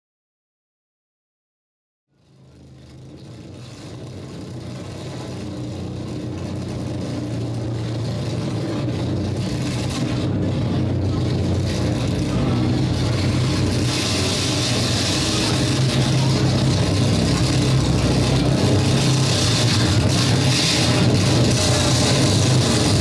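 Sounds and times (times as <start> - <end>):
low droning hum: 2.3 - 23.0.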